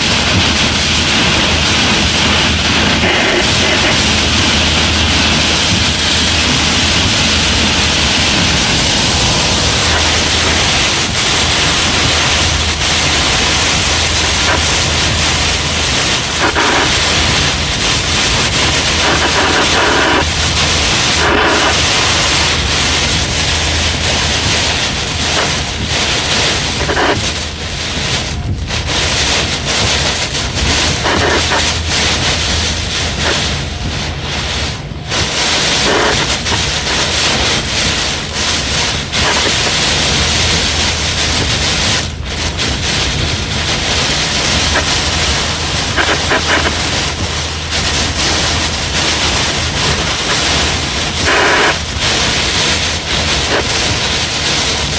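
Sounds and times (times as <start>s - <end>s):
heavy rain: 0.0s - 54.9s
wind buffeting microphone: 0.0s - 54.9s.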